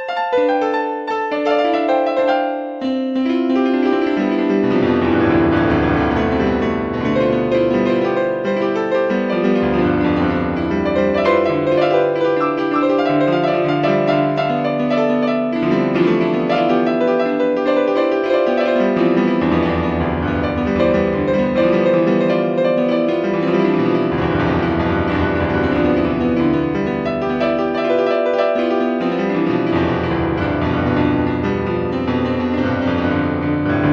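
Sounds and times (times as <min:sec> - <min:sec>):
background piano music: 0:00.0 - 0:33.9.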